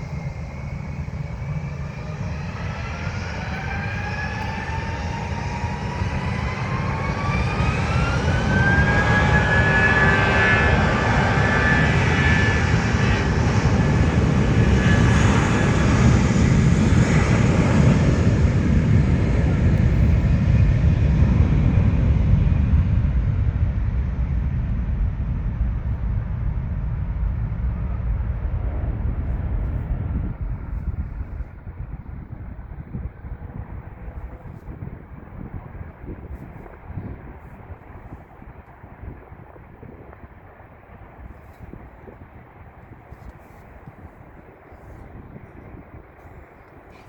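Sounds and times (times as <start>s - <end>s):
airplane taking off: 0.0s - 47.0s.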